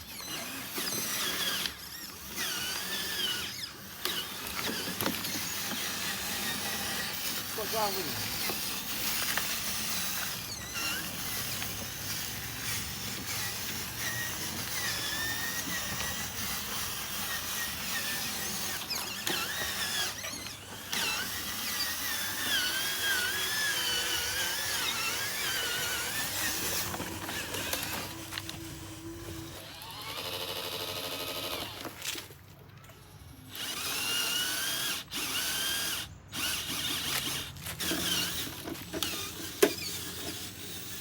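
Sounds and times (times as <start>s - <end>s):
small electric motors whining: 0.0s - 41.0s.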